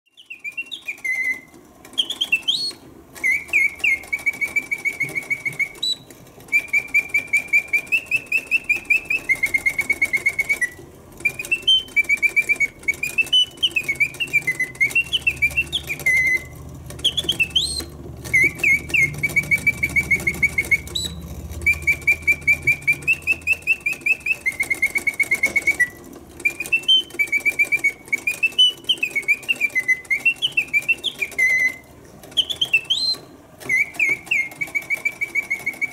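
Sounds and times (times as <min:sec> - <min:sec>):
mechanical bird whistle chirping: 0:00.1 - 0:35.9
faint mechanical whir: 0:00.2 - 0:35.9.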